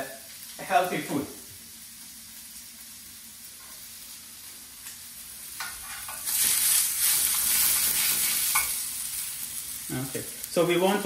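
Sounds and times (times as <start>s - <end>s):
meat sizzling in pan: 0.0s - 11.0s.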